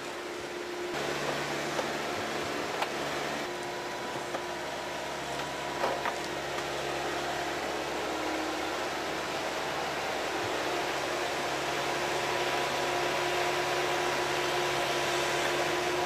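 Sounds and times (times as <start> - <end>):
excavator engine hum: 0.0 - 16.0.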